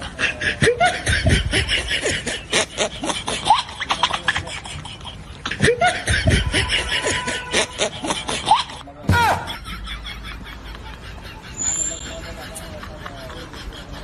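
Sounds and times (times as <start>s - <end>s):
snickering giggling laughter: 0.0s - 14.0s.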